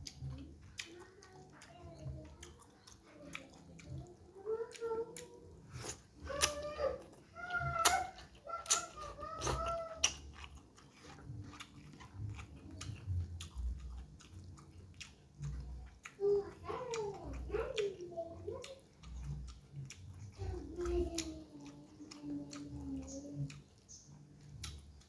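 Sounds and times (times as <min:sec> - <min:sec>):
wet chewing and lip smacks: 0:00.0 - 0:25.0.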